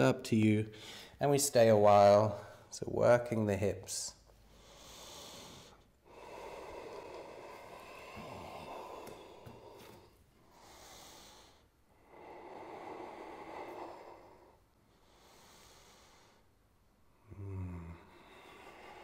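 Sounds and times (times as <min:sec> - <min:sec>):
slow deep breathing: 0:00.7 - 0:01.2, 0:04.2 - 0:19.0.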